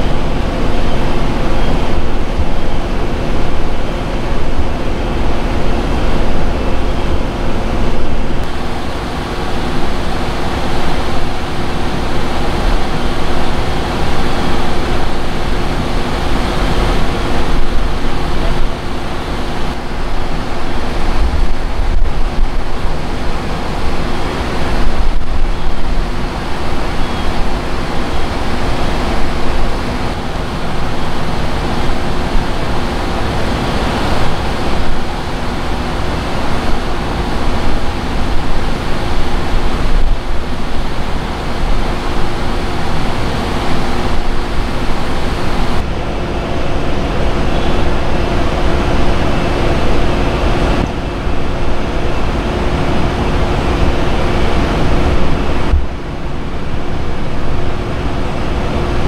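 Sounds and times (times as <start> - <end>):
vehicle engines idling: 0.0 - 59.0
wind buffeting microphone: 0.0 - 59.0.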